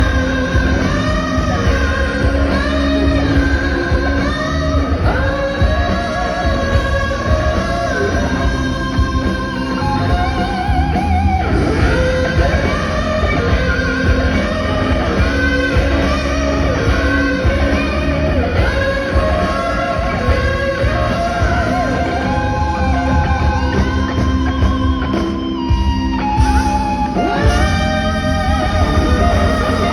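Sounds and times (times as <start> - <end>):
live rock band with singing: 0.0 - 29.9.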